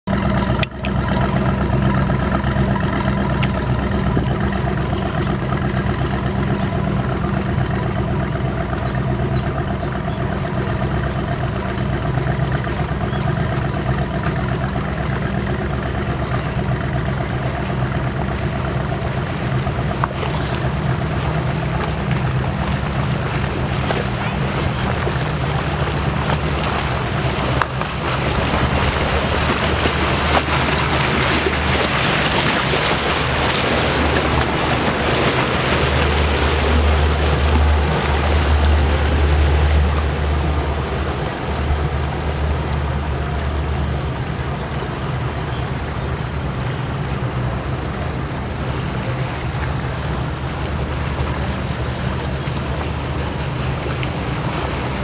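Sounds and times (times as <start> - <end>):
boat engines droning: 0.0 - 55.0
rushing wind and water: 0.0 - 55.0.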